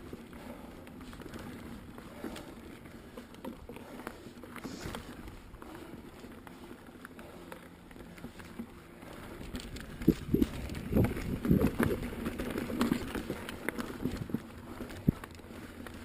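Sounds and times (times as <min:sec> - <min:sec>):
bike clattering and rattling: 0:00.0 - 0:16.0
bike tyre rumble: 0:00.0 - 0:16.0.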